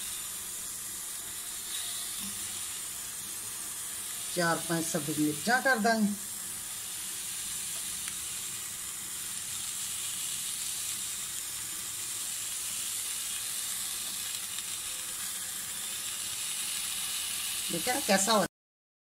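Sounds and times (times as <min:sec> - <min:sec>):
vegetables sizzling in a pot: 0:00.0 - 0:18.5.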